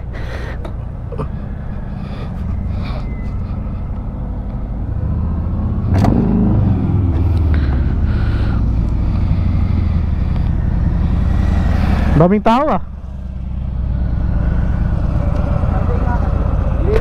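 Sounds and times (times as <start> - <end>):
motorcycle engine idling: 0.0 - 5.6, 7.0 - 11.8, 12.8 - 17.0.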